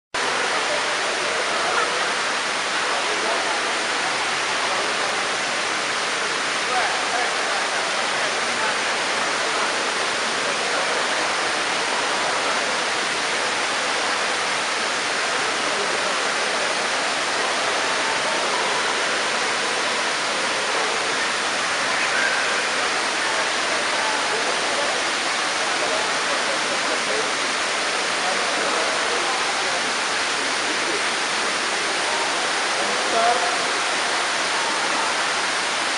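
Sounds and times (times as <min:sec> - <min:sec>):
indoor waterfall rushing hiss: 0:00.2 - 0:35.9.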